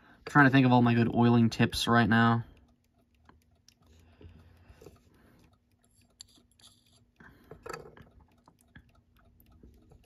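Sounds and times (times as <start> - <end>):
small clicks and taps on clock movement: 0.7 - 10.0.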